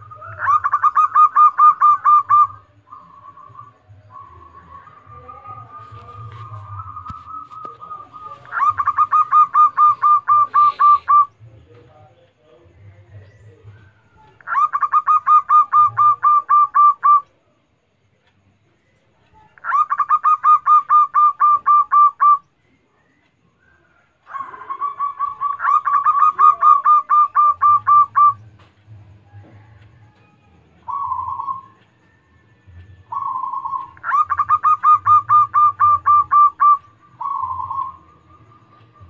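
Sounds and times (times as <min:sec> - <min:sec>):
dove cooing: 0:00.0 - 0:11.8, 0:13.0 - 0:17.4, 0:19.3 - 0:23.1, 0:23.7 - 0:39.0.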